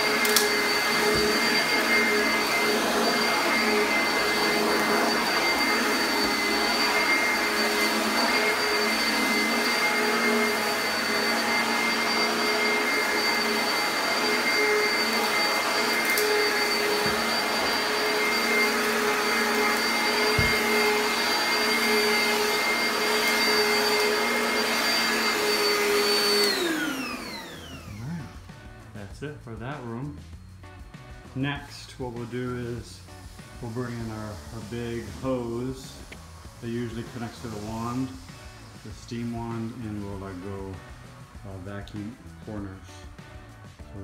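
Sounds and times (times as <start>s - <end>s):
upright vacuum cleaner running: 0.0s - 28.8s, 31.4s - 44.0s.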